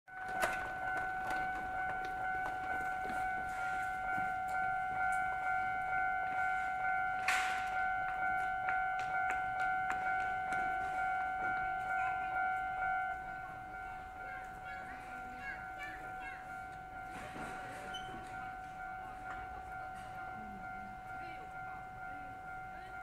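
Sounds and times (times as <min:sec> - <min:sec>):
level crossing bell dinging: 0:00.1 - 0:23.0.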